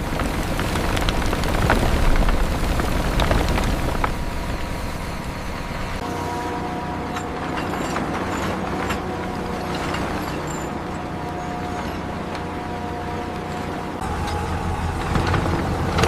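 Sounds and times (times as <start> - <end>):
heavy machinery rumbling: 0.0 - 16.0
machinery whine: 0.0 - 16.0.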